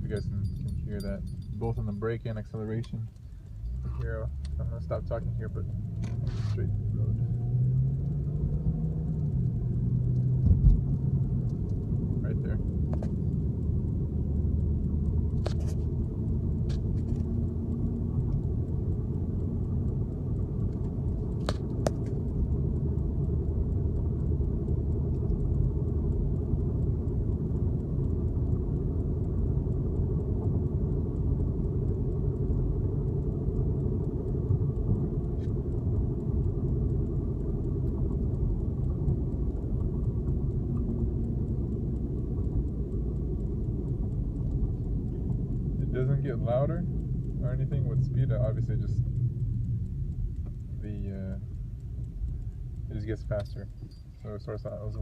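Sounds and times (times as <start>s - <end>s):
rhythmic tyre womp noise: 0.0s - 55.0s
road and tyre rumble: 0.0s - 55.0s.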